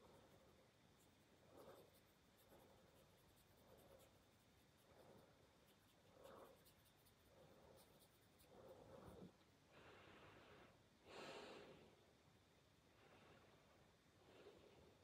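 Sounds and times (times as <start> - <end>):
faint soft puffs: 0.0 - 12.1.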